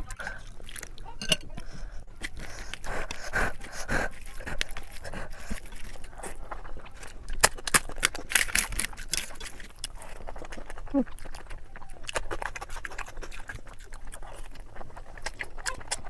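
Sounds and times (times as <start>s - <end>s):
wet chewing: 0.0s - 16.0s.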